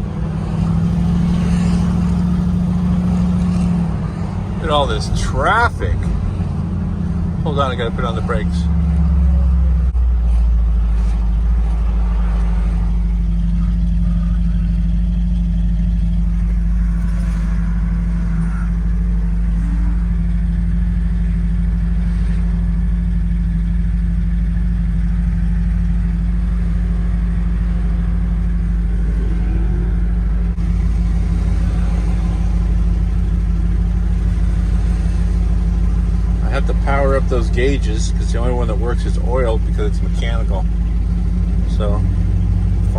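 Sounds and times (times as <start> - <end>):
pickup truck engine droning: 0.0 - 42.9.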